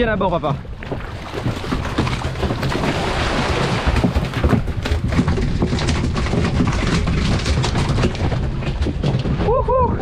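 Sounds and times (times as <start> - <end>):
water rushing past boat: 0.0 - 10.0
wind buffeting microphone: 0.0 - 10.0.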